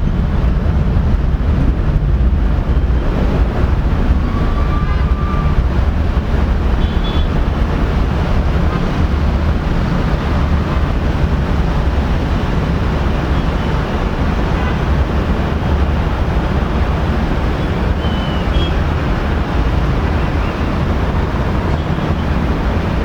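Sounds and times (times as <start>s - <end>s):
airliner engines rumbling: 0.0s - 23.0s.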